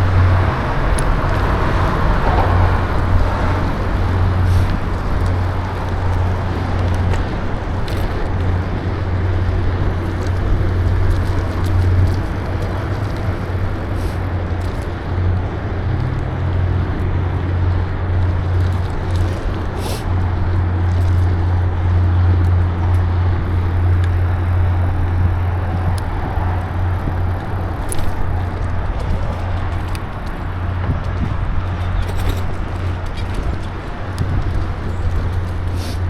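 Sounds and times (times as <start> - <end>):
bicycle tyre noise: 0.0 - 36.0
bike clicks: 0.0 - 36.0
wind on microphone: 0.0 - 36.0.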